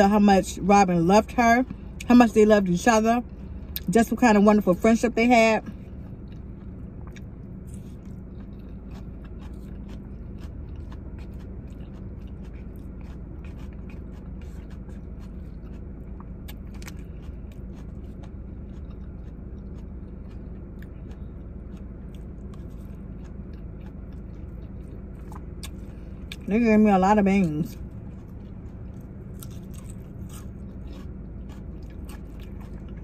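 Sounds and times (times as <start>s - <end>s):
steady low hum: 0.0s - 33.0s
chewing: 5.6s - 26.6s, 27.4s - 33.0s.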